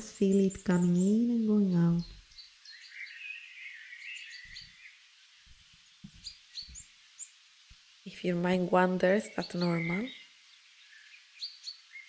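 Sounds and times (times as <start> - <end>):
songbirds chirping and warbling: 0.0 - 12.0.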